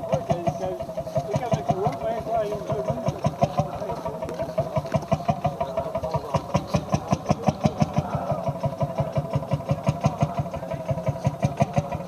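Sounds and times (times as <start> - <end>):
tractor engine running slowly: 0.0 - 12.0.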